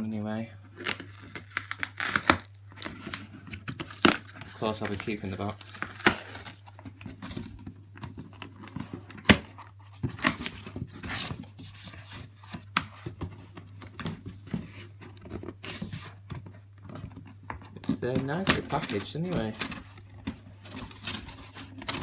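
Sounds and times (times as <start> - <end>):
cardboard scraping and rustling: 0.6 - 22.0.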